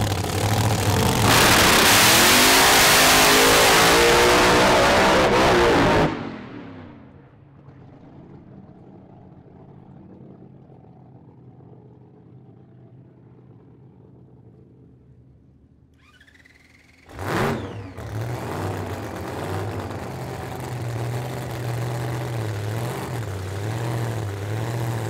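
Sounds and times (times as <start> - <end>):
faint low engine rumble: 0.0 - 1.3, 6.2 - 25.0
drag racing engine at full throttle: 0.0 - 25.0.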